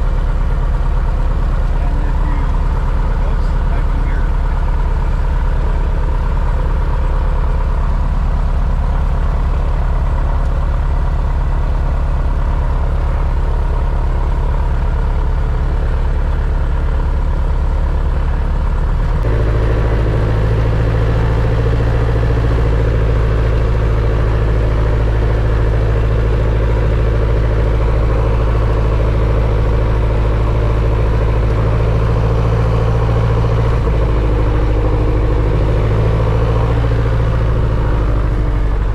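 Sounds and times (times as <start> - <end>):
light aircraft engine drone: 0.0 - 38.9.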